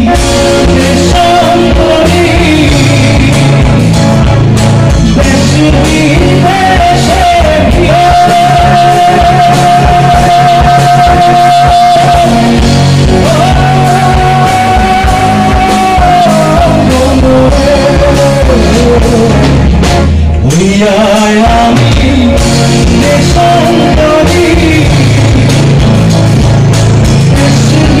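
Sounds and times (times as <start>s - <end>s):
man singing long notes: 0.0s - 4.1s, 4.9s - 26.0s, 27.2s - 28.0s
live rock band playing: 0.0s - 28.0s.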